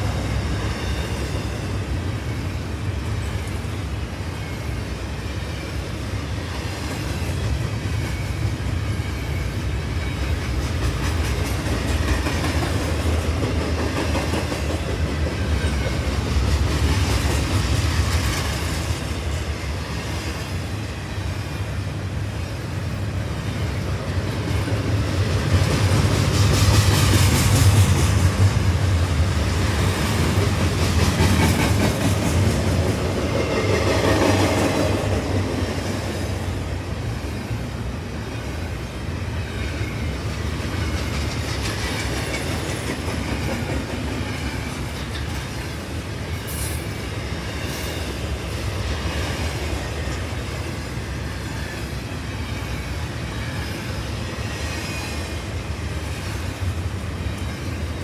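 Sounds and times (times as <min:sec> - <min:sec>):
clickety-clack of train cars: 0:00.0 - 0:58.0
train wheels rumbling on rail: 0:00.0 - 0:58.0.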